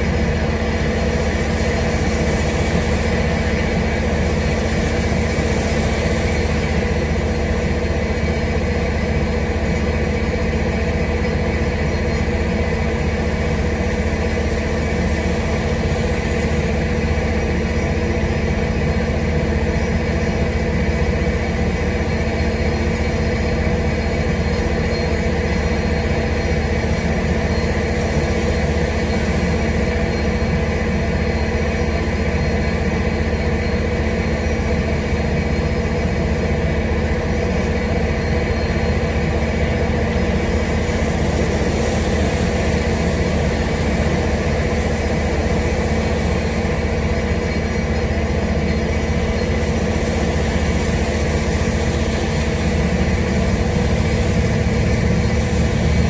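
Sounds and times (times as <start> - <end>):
low mechanical hum: 0.0 - 56.0
steady rush of noise: 0.0 - 56.0.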